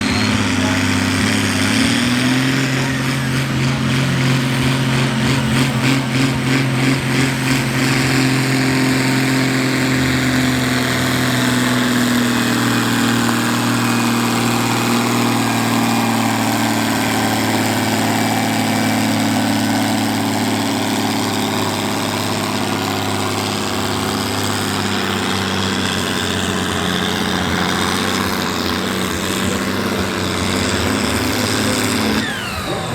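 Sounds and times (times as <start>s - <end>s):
tractor engine under full load: 0.0s - 32.9s.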